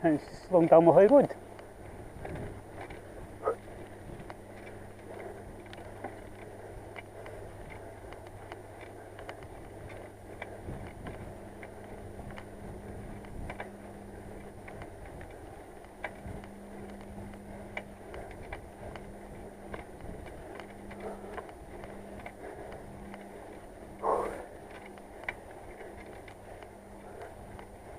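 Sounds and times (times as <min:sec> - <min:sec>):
bicycle rolling hum: 0:00.0 - 0:27.9
bicycle wheel hub clicking: 0:00.2 - 0:27.9.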